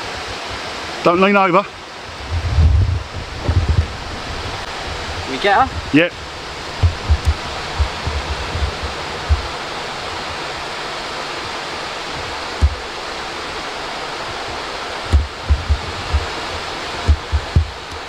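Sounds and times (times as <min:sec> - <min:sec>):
wind hissing across microphone: 0:00.0 - 0:18.0
low wind buffeting thumps: 0:01.7 - 0:18.0.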